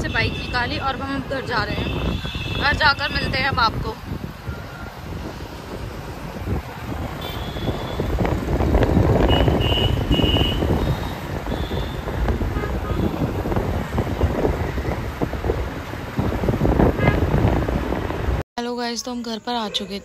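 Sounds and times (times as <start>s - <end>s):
motorbike engine and road noise: 0.0s - 18.4s
wind buffeting microphone: 0.0s - 18.4s.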